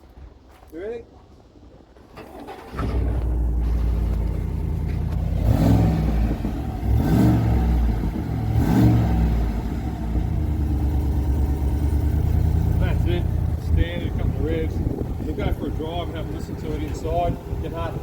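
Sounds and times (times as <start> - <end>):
engine starting and revving: 2.2 - 18.0.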